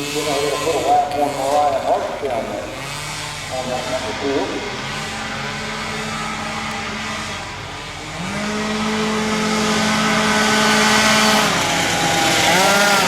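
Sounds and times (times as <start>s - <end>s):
approaching louder engine: 0.0s - 13.0s
racing engines passing: 0.0s - 13.0s.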